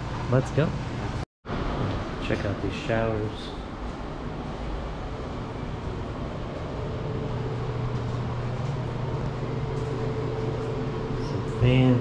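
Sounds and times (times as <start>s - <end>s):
ventilation fan hum: 0.0s - 12.0s.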